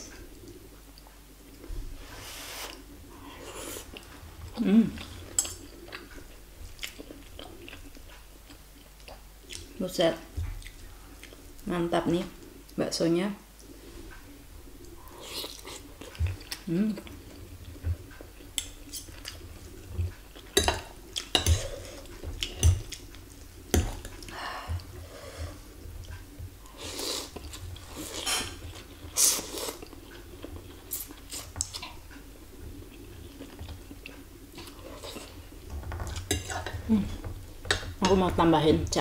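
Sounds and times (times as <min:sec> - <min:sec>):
chewing: 0:02.7 - 0:09.8, 0:10.4 - 0:11.6, 0:13.6 - 0:37.9.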